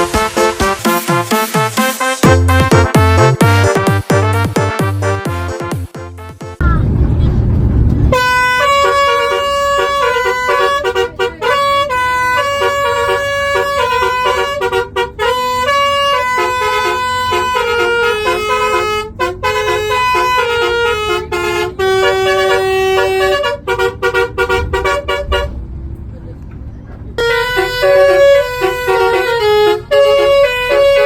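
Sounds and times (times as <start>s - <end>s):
multi-tone bus horn melody: 0.0s - 6.6s, 8.1s - 25.7s, 27.2s - 31.0s.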